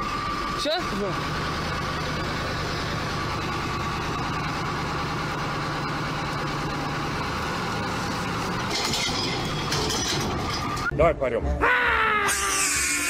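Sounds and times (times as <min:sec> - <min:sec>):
heavy vehicle engine running: 0:00.0 - 0:10.9.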